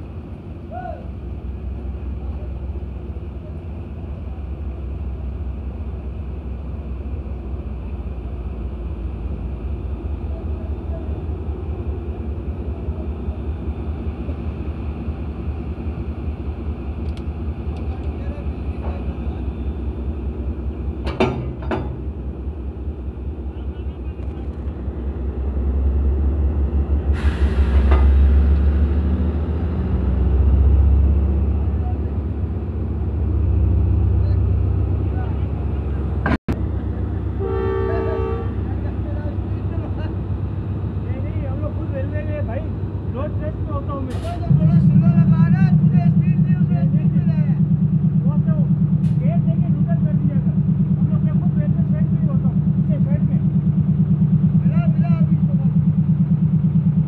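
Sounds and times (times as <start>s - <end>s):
locomotive diesel engine rumble: 0.0s - 57.0s.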